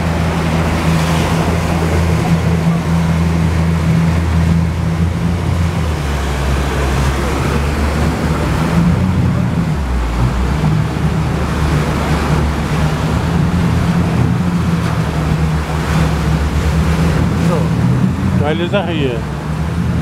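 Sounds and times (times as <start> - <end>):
boat motor running: 0.0 - 20.0
water churning past hull: 0.0 - 20.0.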